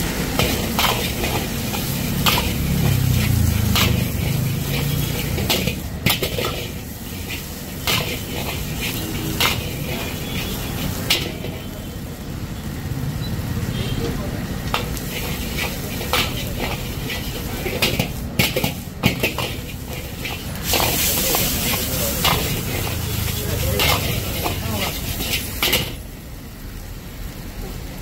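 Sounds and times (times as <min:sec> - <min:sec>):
food sizzling: 0:00.0 - 0:28.0.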